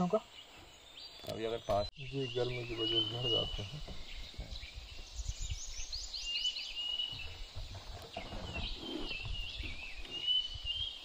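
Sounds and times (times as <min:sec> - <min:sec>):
birds calling: 0:00.0 - 0:11.0
whistled bird notes: 0:00.4 - 0:11.0.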